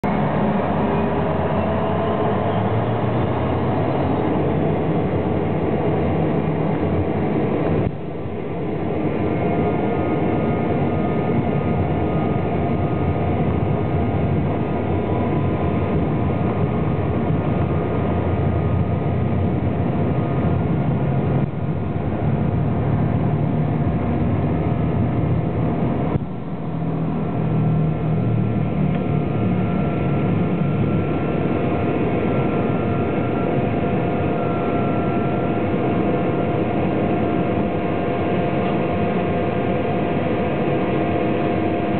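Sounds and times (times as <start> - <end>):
jet engine whining: 0.0 - 41.9
wheels rumbling on runway: 0.0 - 41.9.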